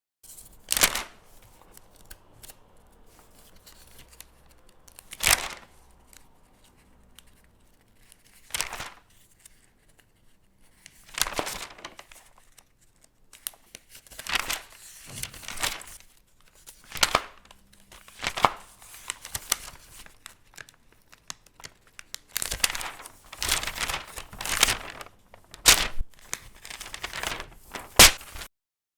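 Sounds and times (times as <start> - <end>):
paper pages turning: 0.2 - 28.5.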